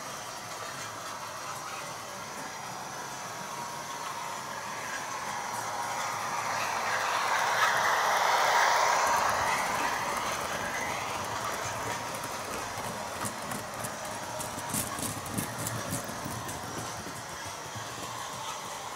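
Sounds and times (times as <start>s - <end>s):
model train wheels rumbling: 0.0s - 18.9s.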